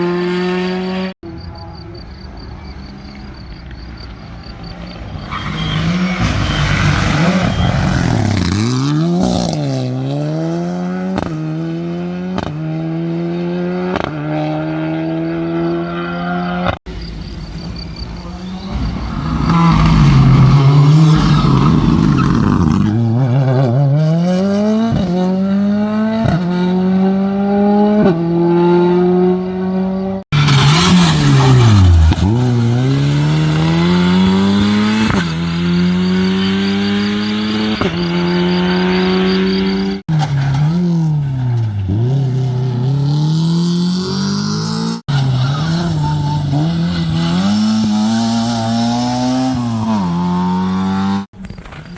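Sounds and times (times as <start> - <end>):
rally car engines accelerating: 0.0 - 51.9
rush of tyre noise: 0.0 - 51.9.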